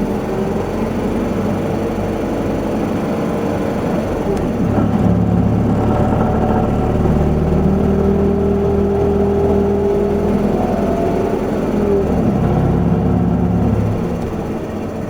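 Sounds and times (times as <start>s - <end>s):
bus diesel engine running: 0.0s - 15.0s
drivetrain whine: 0.0s - 15.0s.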